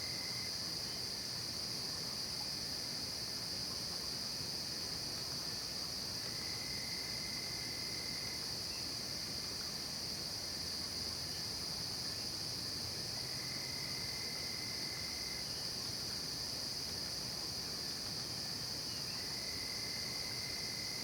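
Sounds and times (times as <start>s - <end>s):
fainter lower insect trill: 0.0s - 1.3s, 3.5s - 9.4s, 10.0s - 21.0s.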